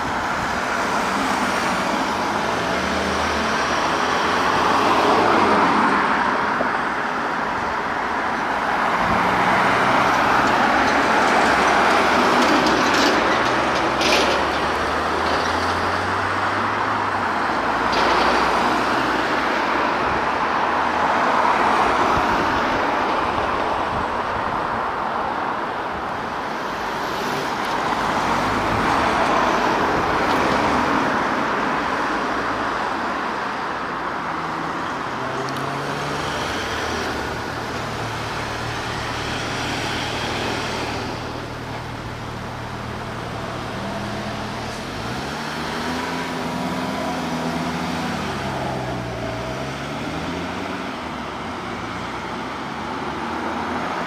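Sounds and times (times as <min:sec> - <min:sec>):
vehicles driving past: 0:00.0 - 0:54.0.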